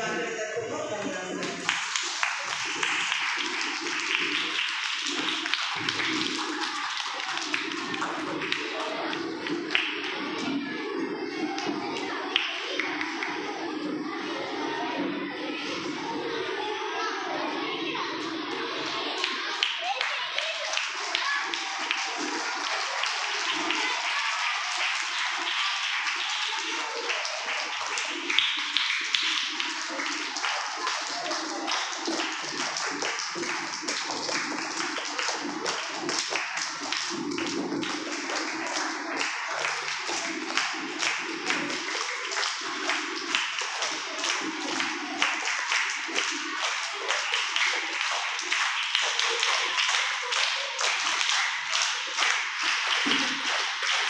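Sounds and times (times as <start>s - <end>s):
crowd clapping: 0.9s - 14.8s, 18.5s - 54.0s.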